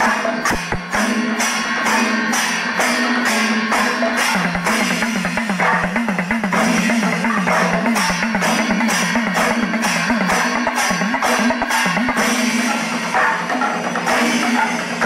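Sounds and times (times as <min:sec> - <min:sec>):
percussion: 0:00.0 - 0:15.0.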